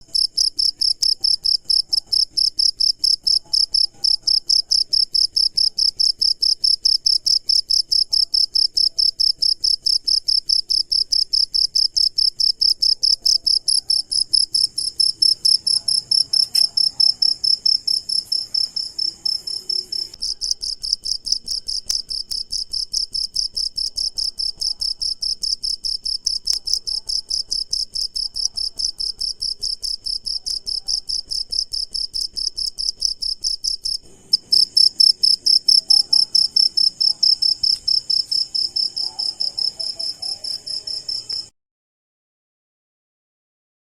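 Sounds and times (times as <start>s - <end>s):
cricket chirping: 0.0s - 41.5s.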